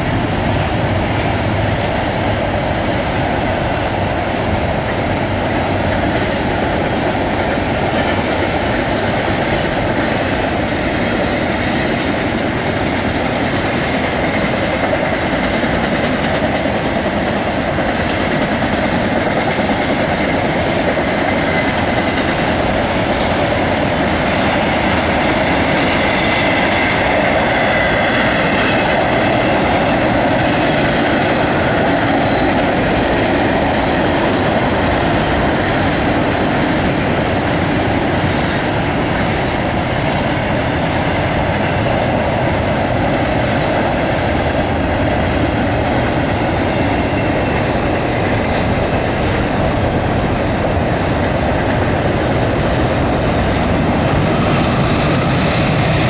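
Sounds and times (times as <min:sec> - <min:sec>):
steel wheels running over rails: 0:00.0 - 0:56.0.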